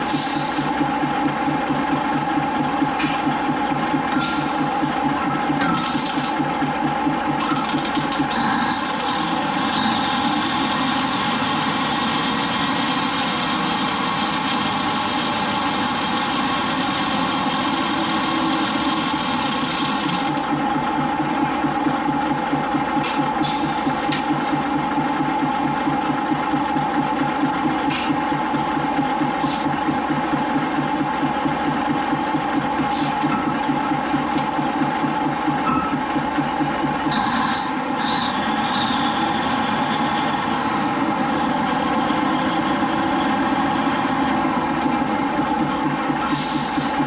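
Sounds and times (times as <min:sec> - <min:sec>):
crane engine pulsing: 0:00.0 - 0:47.0.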